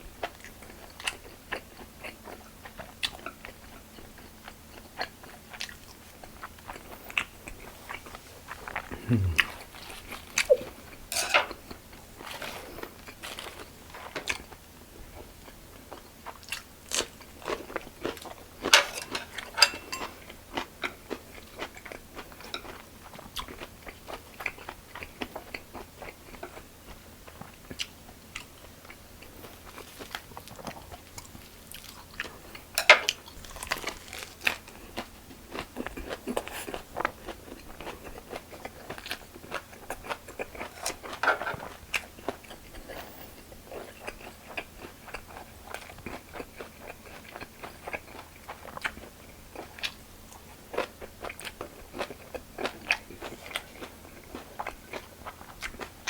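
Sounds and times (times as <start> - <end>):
person chewing crunchy food: 0.2 - 14.6, 15.2 - 26.6, 27.3 - 56.0.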